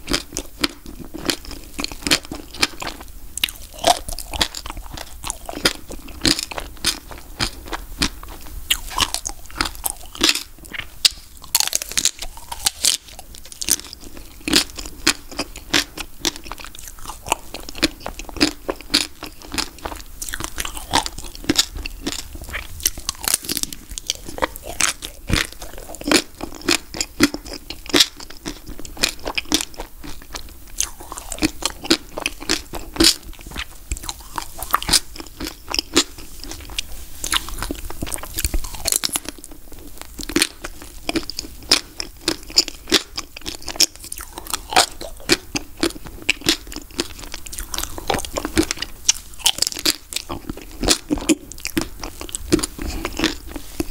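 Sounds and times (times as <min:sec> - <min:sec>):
chewing: 0:00.0 - 0:53.9.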